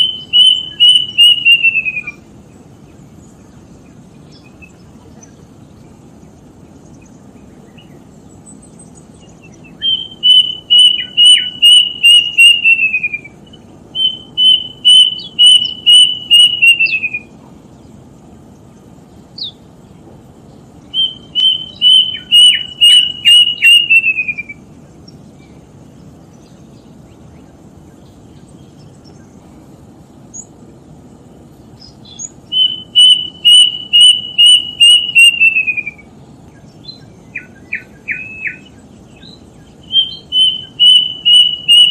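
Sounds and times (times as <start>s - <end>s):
bird calling: 0.0s - 41.9s
low background hiss: 0.0s - 41.9s.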